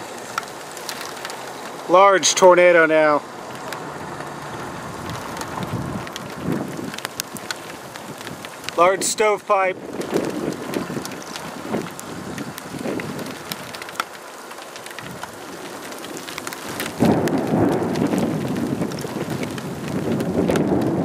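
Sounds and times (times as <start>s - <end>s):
rain: 0.0s - 21.0s
raindrops clicking close by: 0.0s - 21.0s
wind: 0.0s - 21.0s.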